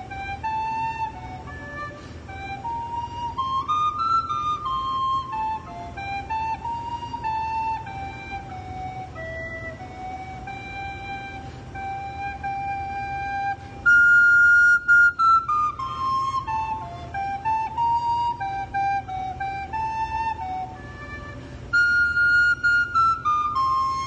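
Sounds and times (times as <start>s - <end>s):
wooden flute playing slow tune: 0.0s - 24.0s.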